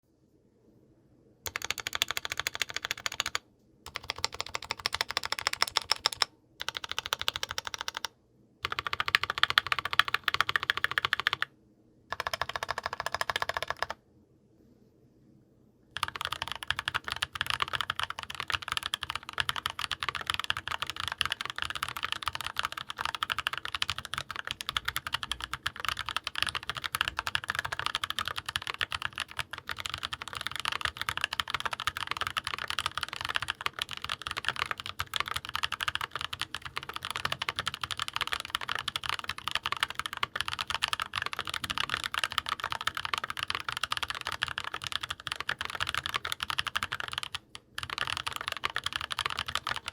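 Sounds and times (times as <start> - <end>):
fast mechanical keyboard typing: 1.5 - 11.5, 12.1 - 14.0, 16.0 - 49.9.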